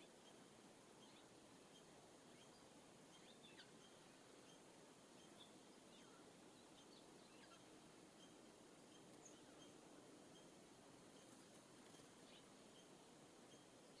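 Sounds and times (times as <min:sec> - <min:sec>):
distant songbird chirps: 0:00.0 - 0:14.0.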